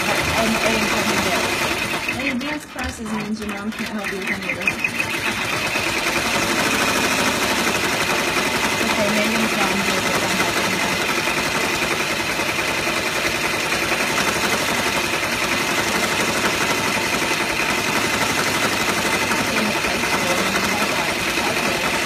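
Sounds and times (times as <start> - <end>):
embroidery machine stitching: 0.0 - 22.0.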